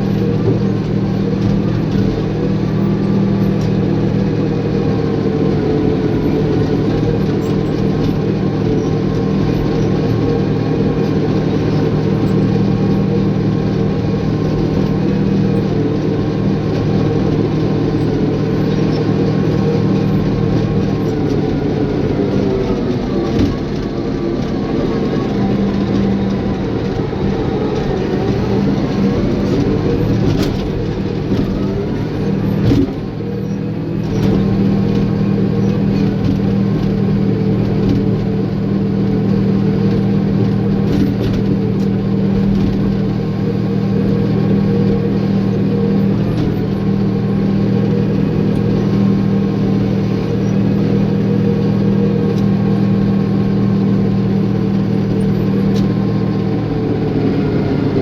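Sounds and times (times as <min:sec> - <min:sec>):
bulldozer diesel engine humming: 0:00.0 - 0:58.0.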